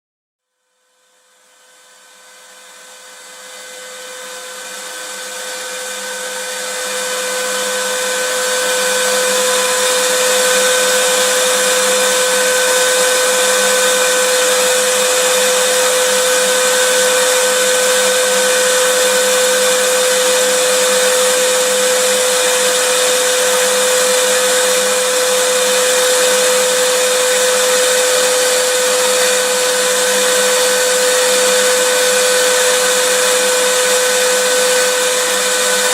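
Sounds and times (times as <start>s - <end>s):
vacuum cleaner running: 1.0s - 35.9s.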